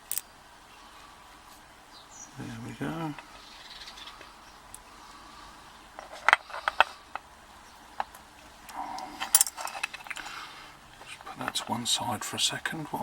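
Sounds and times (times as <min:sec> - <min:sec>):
rustle: 0:00.0 - 0:13.0.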